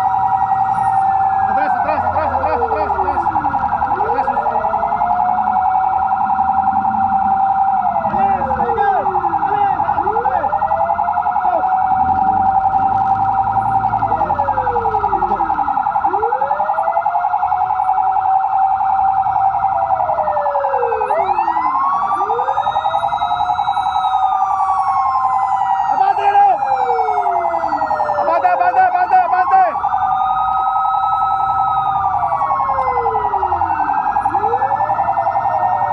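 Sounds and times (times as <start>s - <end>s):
fire engine sirens wailing: 0.0s - 35.9s.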